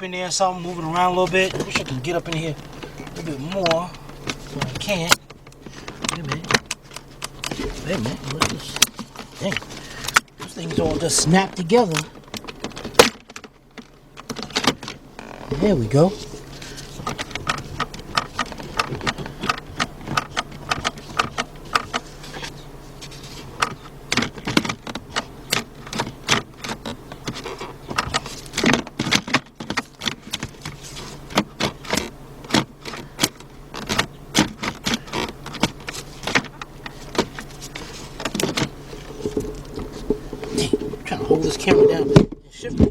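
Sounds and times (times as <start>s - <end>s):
gear shifter clicking and rattling: 0.0s - 42.9s
steady low hum: 0.0s - 42.9s.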